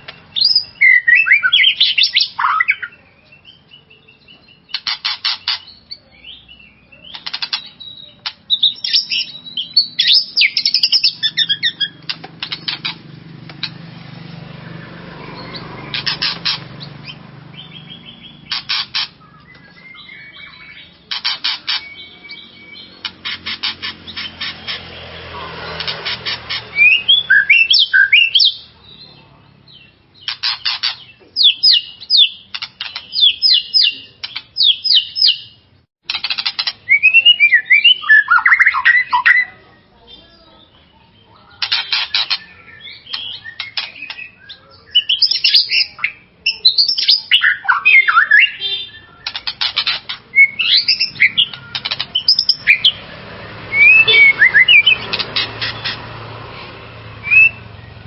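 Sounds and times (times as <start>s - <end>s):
bird singing chatters and whistles: 0.0s - 58.0s.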